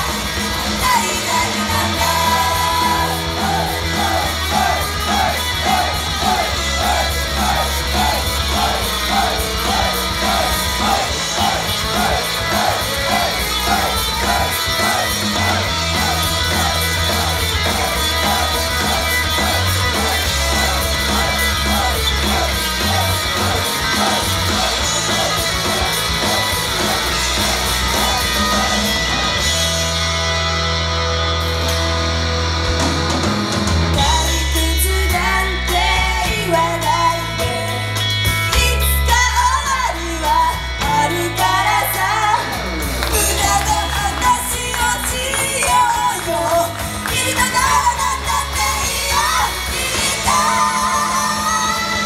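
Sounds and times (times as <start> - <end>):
people singing and yelling: 0.0 - 31.0, 33.4 - 52.0
loud heavy rock music: 0.0 - 52.0.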